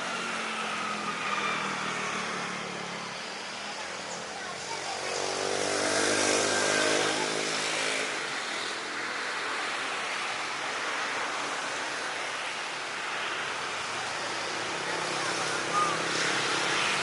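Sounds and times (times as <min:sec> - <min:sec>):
steady rushing roar: 0:00.0 - 0:17.0.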